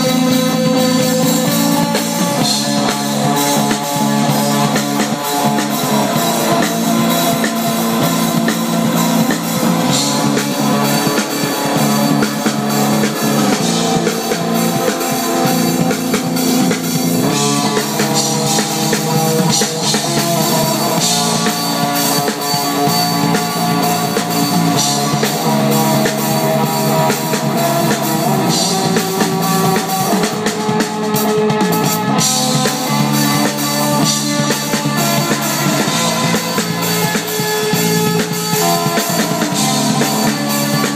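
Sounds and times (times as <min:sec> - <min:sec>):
drum kit beat: 0:00.0 - 0:40.9
live rock band playing: 0:00.0 - 0:40.9.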